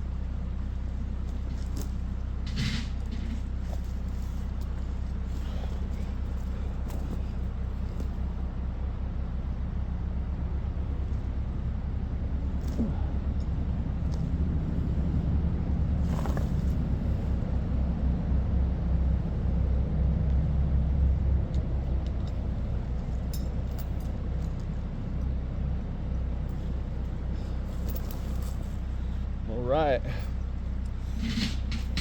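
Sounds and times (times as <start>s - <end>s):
low engine rumble: 0.0s - 32.0s.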